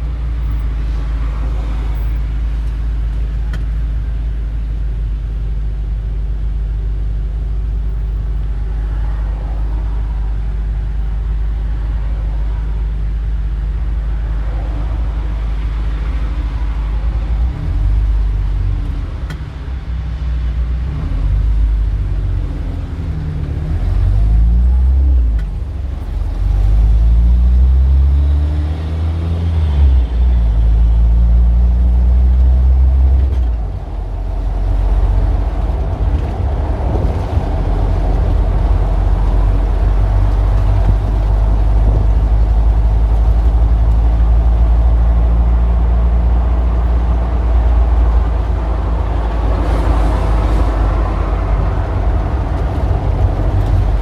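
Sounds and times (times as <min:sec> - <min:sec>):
low engine rumble: 0:00.0 - 0:54.0
vehicles pulling away: 0:08.0 - 0:54.0.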